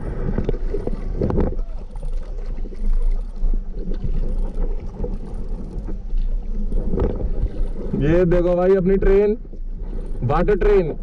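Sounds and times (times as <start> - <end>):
water splashing around kayaks: 0.0 - 11.0
wind rumbling on microphone: 0.0 - 11.0.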